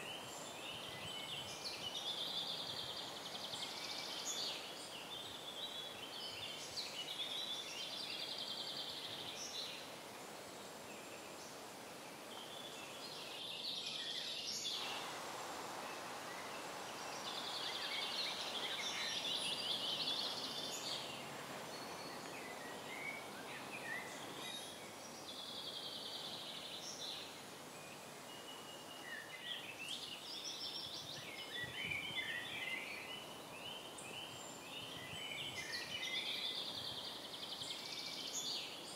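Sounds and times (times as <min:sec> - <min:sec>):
songbirds chirping: 0:00.0 - 0:38.9
steady background hiss: 0:00.0 - 0:38.9.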